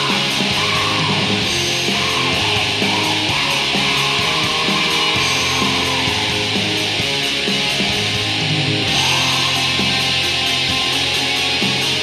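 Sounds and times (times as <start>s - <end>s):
distorted electric guitars: 0.0s - 12.0s.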